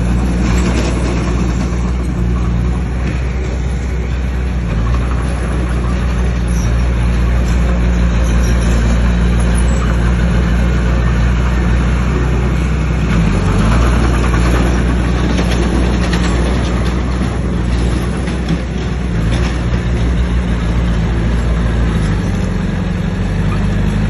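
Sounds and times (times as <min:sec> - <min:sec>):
bulldozer diesel engine running: 0:00.0 - 0:24.0
clatter of rock or tracks: 0:00.0 - 0:24.0.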